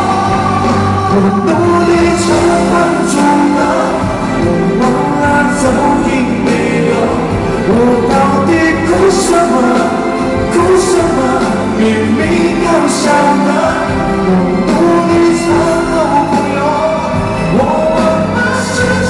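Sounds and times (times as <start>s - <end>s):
full band playing: 0.0s - 19.0s
man singing ballad live: 0.0s - 19.0s.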